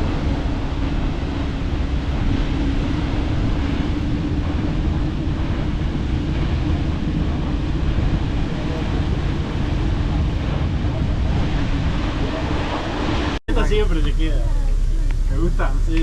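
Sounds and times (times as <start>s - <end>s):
boat engine drone: 0.0s - 16.0s
wind buffeting microphone: 0.0s - 16.0s.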